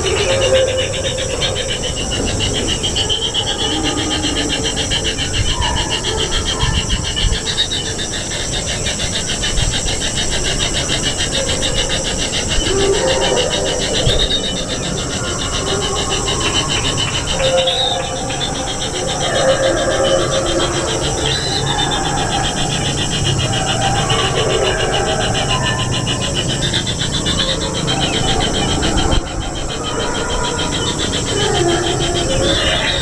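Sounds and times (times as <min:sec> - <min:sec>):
nestlings rasping begging calls: 0:00.0 - 0:33.0.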